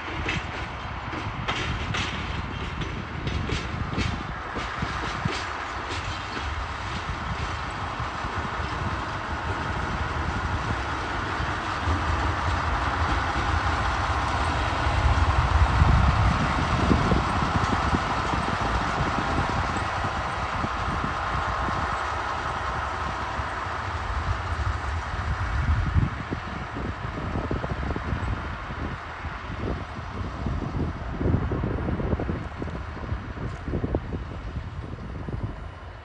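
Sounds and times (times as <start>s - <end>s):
diesel locomotive engine rumbling: 0.0s - 36.0s.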